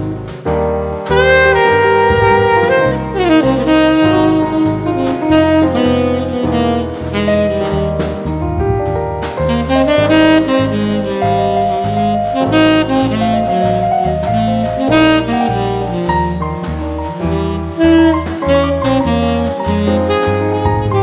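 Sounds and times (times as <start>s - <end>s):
drums keeping time: 0.0s - 21.0s
saxophone lead: 0.0s - 21.0s
walking bass line: 0.0s - 21.0s.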